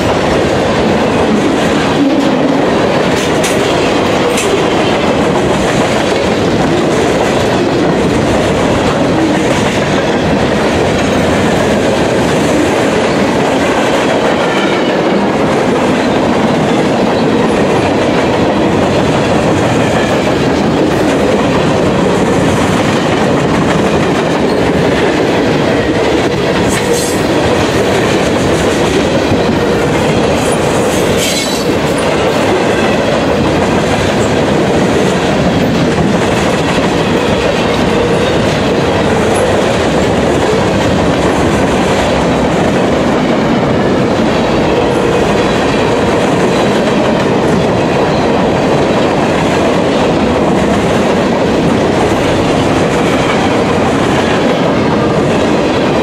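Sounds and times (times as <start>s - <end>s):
steel wheels on rails: 0.0s - 56.0s.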